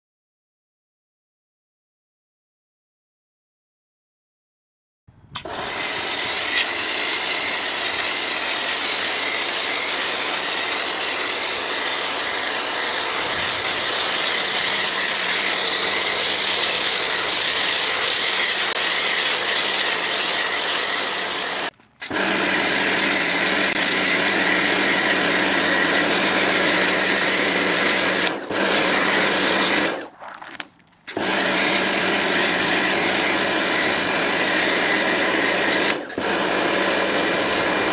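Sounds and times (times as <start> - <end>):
hiss of foam spraying: 5.4 - 30.0, 31.2 - 37.9
pressure washer motor running: 5.4 - 30.1, 31.1 - 37.9.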